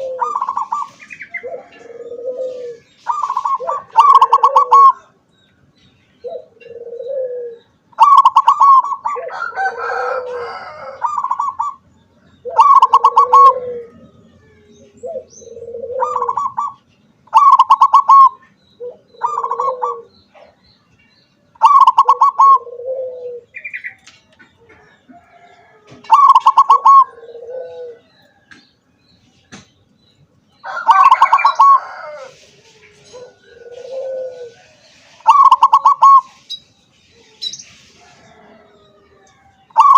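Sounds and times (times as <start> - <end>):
dove cooing: 0.0 - 5.2, 6.2 - 20.6, 21.5 - 28.5, 30.6 - 36.5, 37.1 - 39.9.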